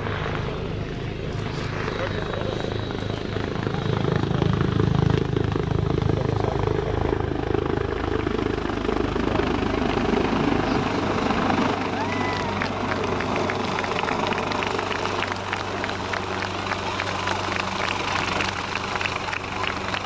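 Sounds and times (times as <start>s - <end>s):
helicopter engines running: 0.0s - 20.0s
helicopter rotor beating: 0.0s - 20.0s.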